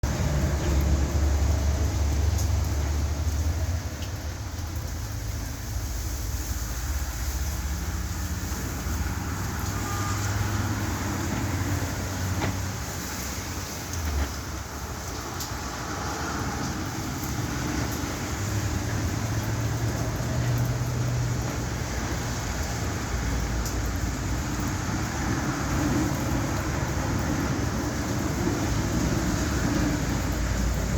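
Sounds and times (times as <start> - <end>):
traffic noise: 0.0 - 30.9.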